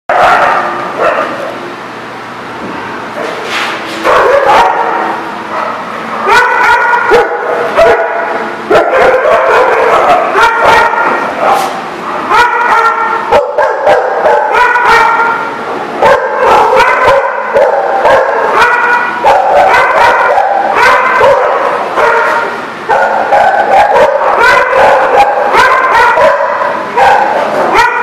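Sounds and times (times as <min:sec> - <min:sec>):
dogs barking and yipping: 0:00.1 - 0:01.6, 0:04.0 - 0:28.0.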